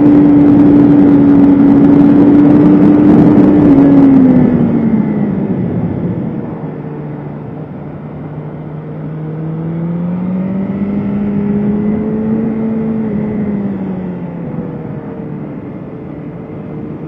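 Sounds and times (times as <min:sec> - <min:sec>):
motorcycle engine: 0:00.0 - 0:17.0
rushing wind noise: 0:00.0 - 0:17.0.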